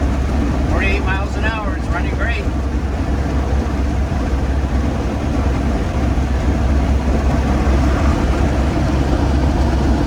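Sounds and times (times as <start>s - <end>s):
car engine rumbling: 0.0s - 10.0s
road and wind noise: 0.0s - 10.0s.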